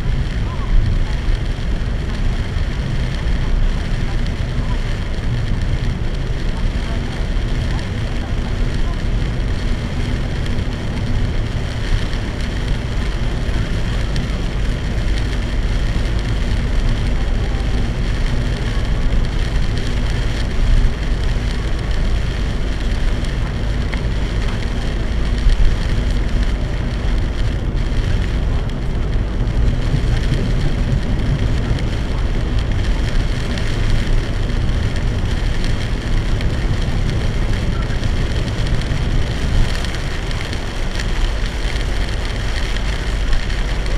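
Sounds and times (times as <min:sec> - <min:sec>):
heavy rain drumming on car: 0:00.0 - 0:43.9
tyre and road noise: 0:00.0 - 0:43.9.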